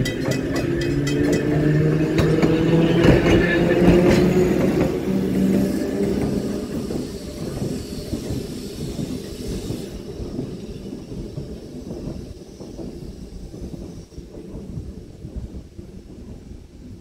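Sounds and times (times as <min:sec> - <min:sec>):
trolley car rumbling on track: 0:00.0 - 0:17.0.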